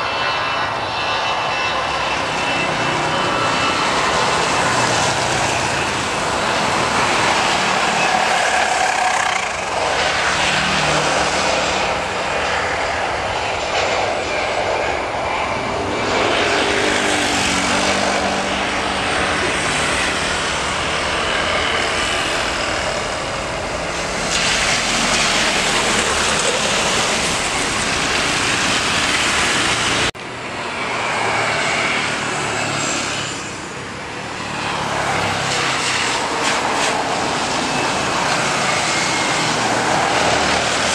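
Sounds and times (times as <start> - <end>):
jet engines on approach: 0.0 - 40.9
jet engines rushing: 0.0 - 40.9.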